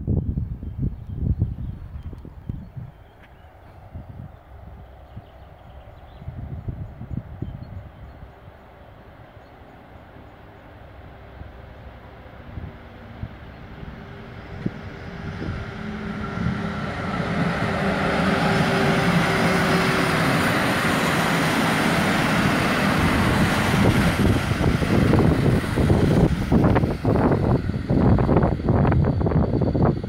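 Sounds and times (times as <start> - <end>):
diesel locomotive engine: 0.0 - 30.0.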